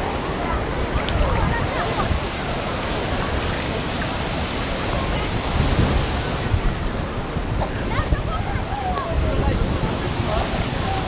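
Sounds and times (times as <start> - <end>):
faint crowd voices: 0.0 - 11.0.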